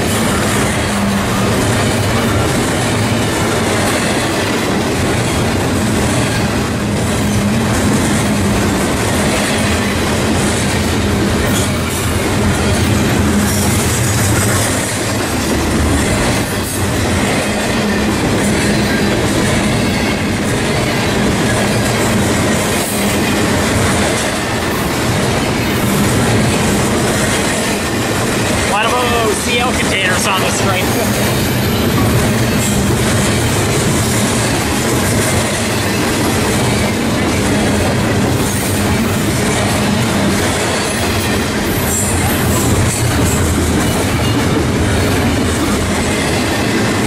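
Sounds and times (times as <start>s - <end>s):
freight train wheels rattling on rails: 0.0s - 47.0s.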